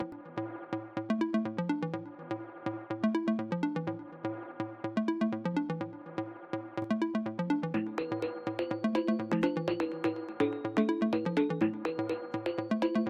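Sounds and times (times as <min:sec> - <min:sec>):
electronic music with synth riff: 0:00.0 - 0:13.0.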